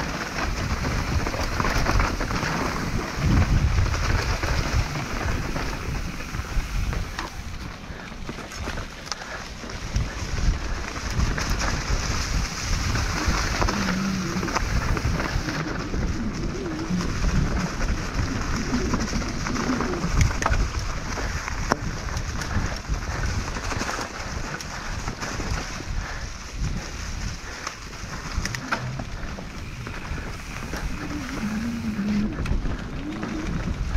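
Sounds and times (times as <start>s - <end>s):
wind on microphone: 0.0s - 9.0s, 9.6s - 33.9s
bike tyres rolling over gravel: 0.0s - 33.9s.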